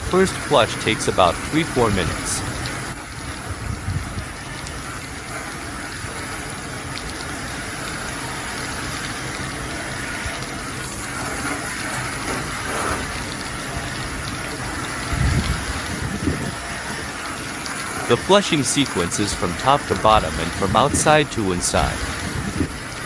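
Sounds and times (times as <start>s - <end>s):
water spray gun hissing: 4.1s - 23.0s.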